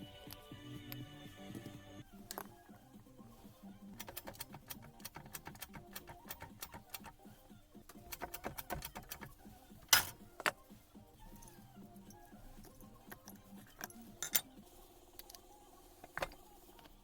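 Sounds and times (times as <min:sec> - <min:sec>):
light clicks and taps of tools: 0:00.2 - 0:02.7, 0:03.9 - 0:17.0.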